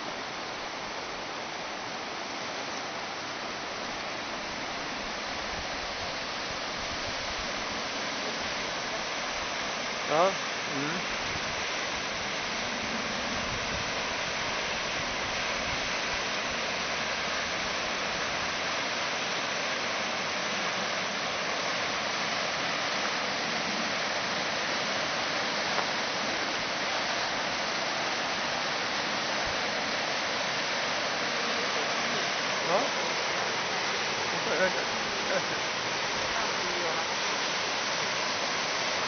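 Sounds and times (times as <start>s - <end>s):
river rushing over rapids: 0.0s - 39.0s.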